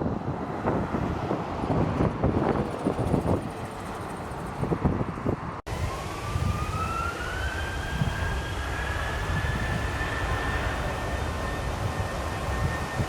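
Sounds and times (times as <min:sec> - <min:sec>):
jet engine rumble: 0:00.0 - 0:13.0
rising engine whine: 0:00.0 - 0:13.0
wind on microphone: 0:00.0 - 0:13.0.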